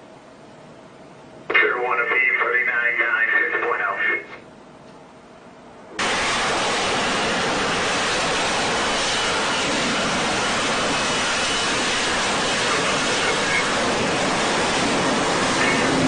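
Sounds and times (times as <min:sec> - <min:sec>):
jet engine roaring: 0:01.5 - 0:04.4, 0:06.0 - 0:16.0.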